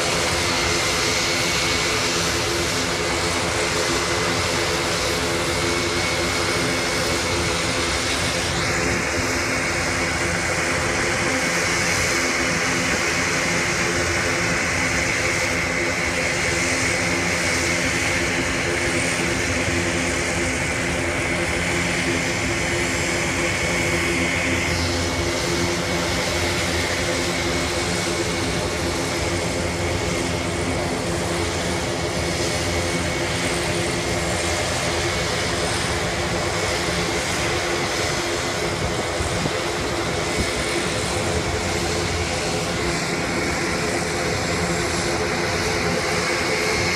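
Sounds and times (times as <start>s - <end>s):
aircraft engines droning: 0.0s - 46.9s
high engine whine: 0.0s - 46.9s.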